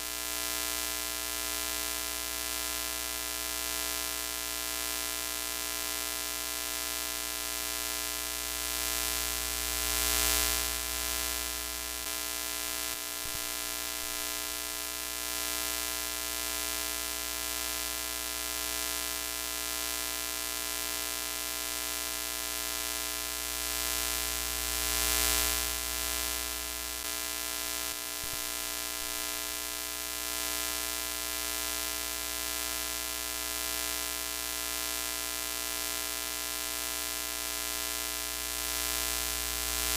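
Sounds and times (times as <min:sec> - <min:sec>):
buzzing hum: 0:05.0 - 0:39.9.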